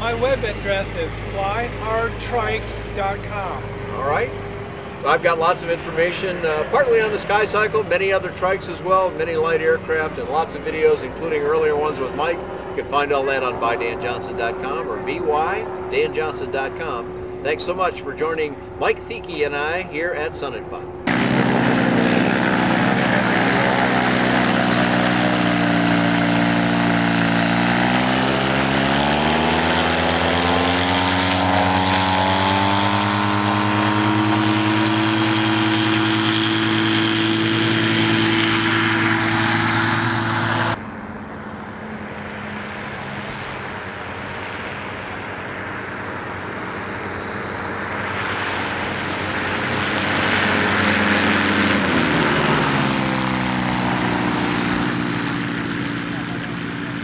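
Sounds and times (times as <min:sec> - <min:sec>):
ultralight trike engine and propeller: 0:00.0 - 0:57.0.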